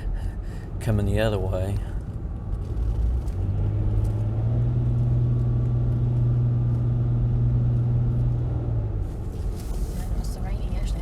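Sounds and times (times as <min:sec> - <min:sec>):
car interior drone: 0:00.0 - 0:11.0
road rumble: 0:00.0 - 0:11.0.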